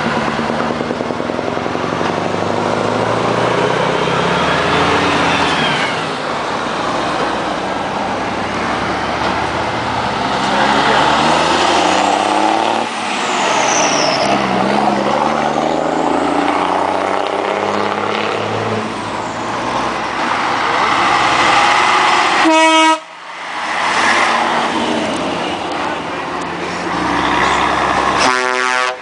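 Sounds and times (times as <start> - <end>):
diesel trucks driving past: 0.0 - 29.0.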